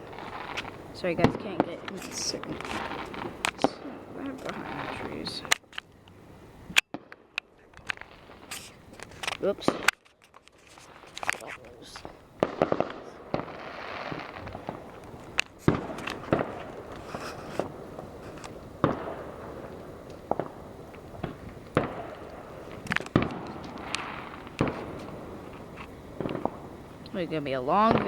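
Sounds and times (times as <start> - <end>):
fireworks bangs and pops: 0.0 - 28.0.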